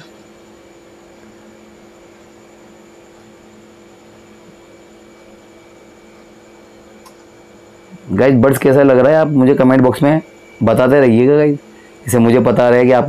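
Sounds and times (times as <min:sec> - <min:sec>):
faint hum and hiss: 0:00.0 - 0:13.0.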